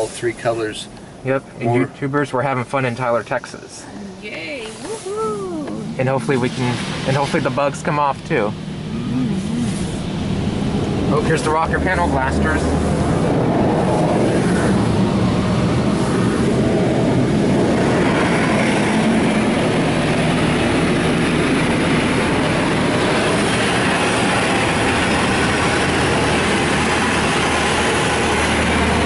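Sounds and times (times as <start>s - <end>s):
high-pressure water spraying car: 4.6s - 29.0s.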